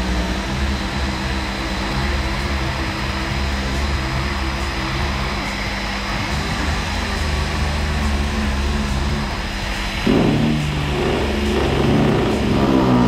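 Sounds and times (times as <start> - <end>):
air sander sanding filler: 0.0 - 13.0.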